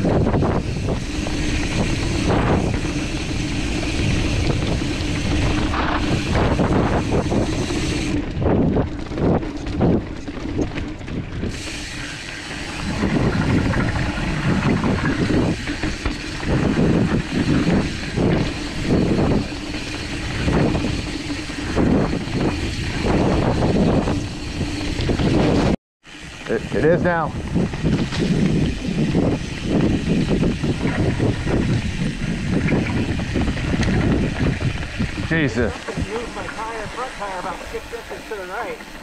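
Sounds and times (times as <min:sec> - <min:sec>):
bike rattling over bumps: 0:00.0 - 0:39.0
tyres rolling on dirt: 0:00.0 - 0:39.0
wind rushing over microphone: 0:00.0 - 0:39.0.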